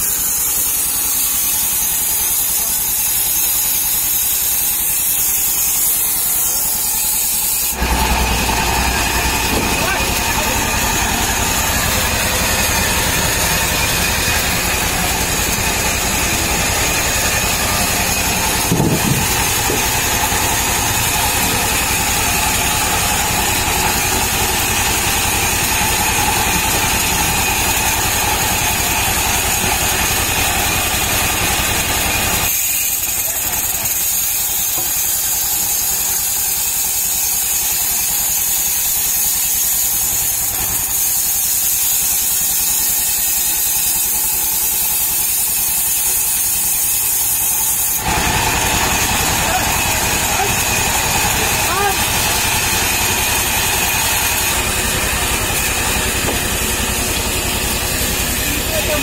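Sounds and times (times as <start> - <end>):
band saw cutting wood: 0.0 - 59.0.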